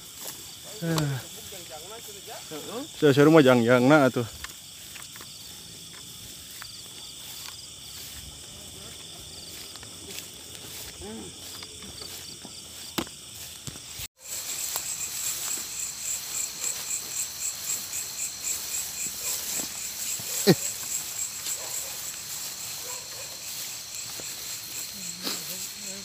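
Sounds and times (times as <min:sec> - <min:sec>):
crickets and insects trilling: 0:00.0 - 0:26.0.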